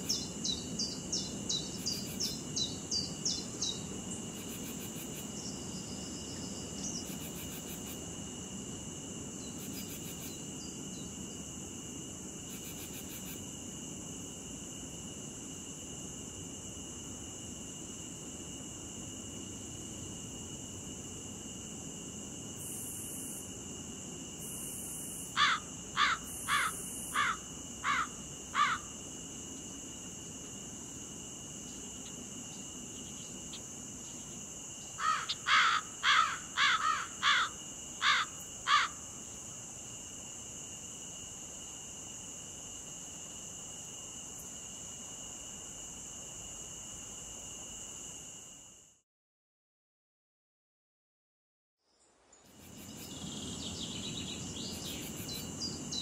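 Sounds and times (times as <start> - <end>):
insects droning: 0.0 - 49.0, 51.8 - 56.0.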